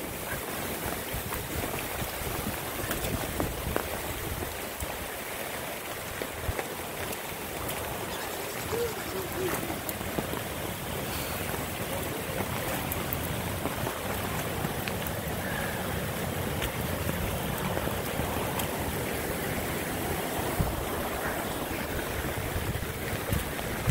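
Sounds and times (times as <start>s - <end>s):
wind buffeting microphone: 0.0s - 5.2s, 5.8s - 23.9s
floodwater rushing: 0.0s - 23.9s.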